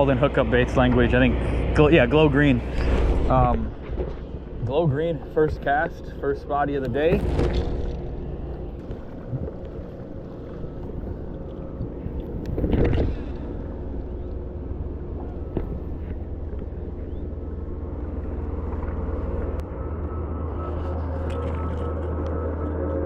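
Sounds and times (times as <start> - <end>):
motor running: 0.0 - 23.0.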